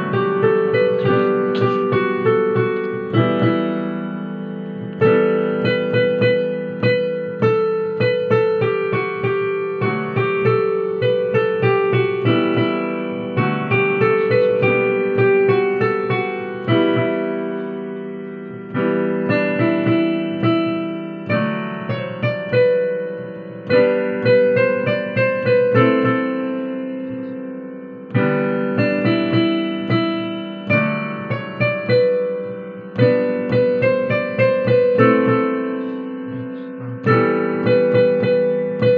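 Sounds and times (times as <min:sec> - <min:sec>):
solo piano melody: 0:00.0 - 0:38.9.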